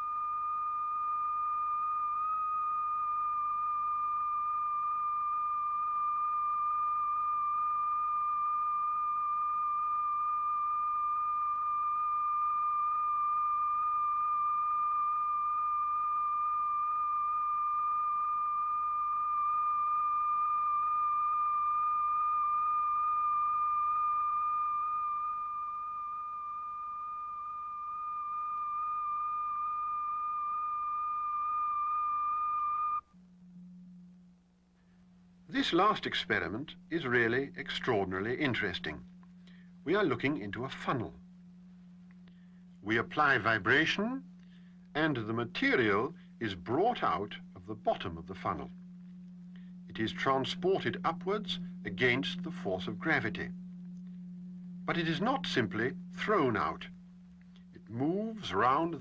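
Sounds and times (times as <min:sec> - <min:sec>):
high-pitched pure tone: 0:00.0 - 0:59.0.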